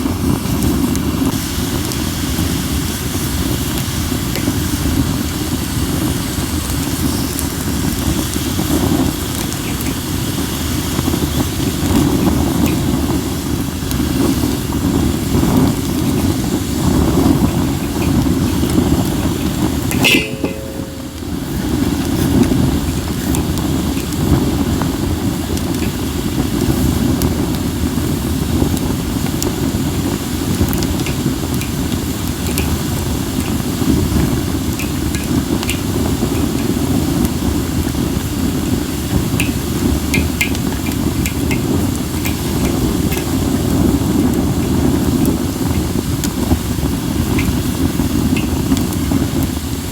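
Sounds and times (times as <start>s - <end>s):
wood fire crackling and popping: 0.0s - 49.9s.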